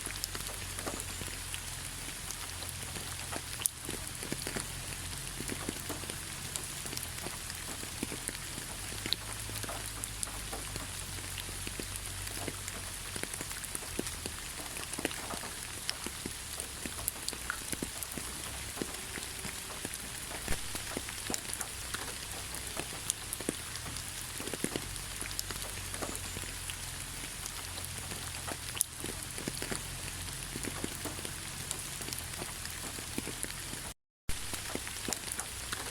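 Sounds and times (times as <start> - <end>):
raindrop ticks: 0.0 - 35.9
steady rain hiss: 0.0 - 35.9.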